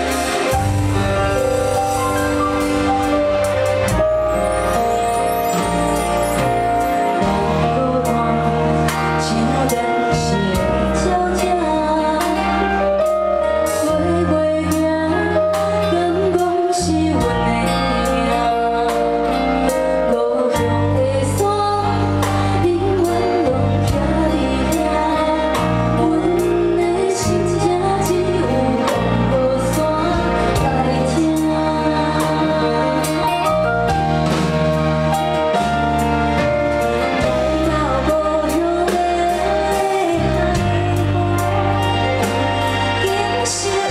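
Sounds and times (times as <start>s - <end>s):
live band playing: 0.0s - 43.9s
woman singing: 4.4s - 33.9s, 37.2s - 43.9s.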